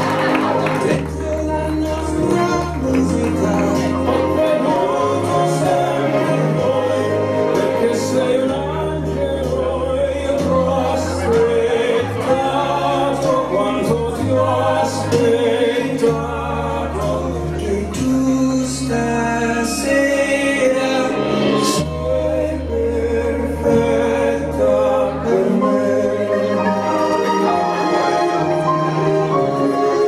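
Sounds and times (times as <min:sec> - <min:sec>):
long held bass notes: 0:00.0 - 0:30.0
person singing: 0:00.0 - 0:30.0.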